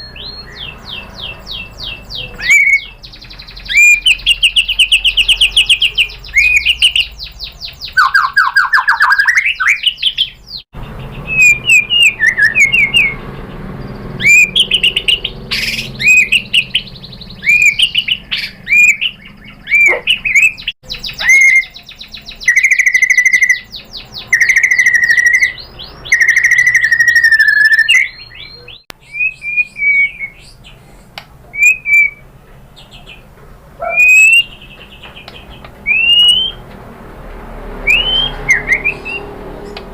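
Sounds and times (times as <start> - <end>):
bird singing trills and whistles: 0.0 - 36.7, 37.8 - 39.9.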